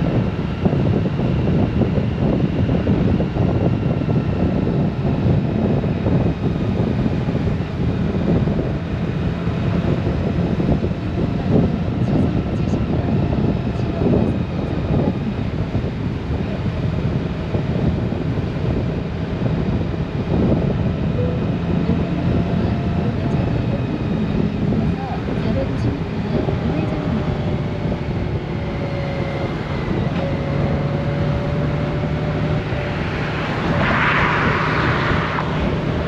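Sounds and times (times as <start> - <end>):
motorcycle engine hum: 0.0 - 36.0
road rumble: 0.0 - 36.0
wind noise on microphone: 0.0 - 36.0.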